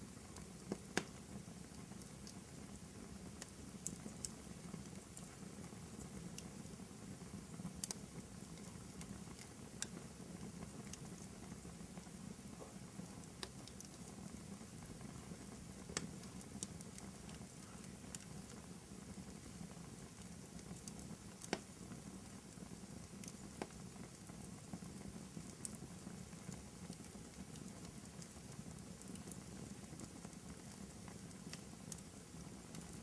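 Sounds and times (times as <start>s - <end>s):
rumble of fire flames: 0.0s - 33.0s
wood fire crackling and popping: 0.0s - 33.0s.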